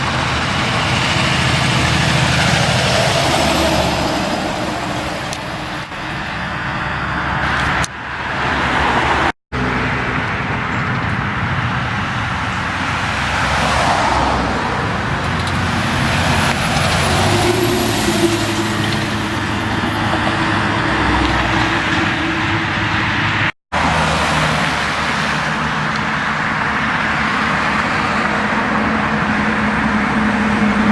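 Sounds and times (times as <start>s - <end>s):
trucks and cars driving past: 0.0s - 30.9s.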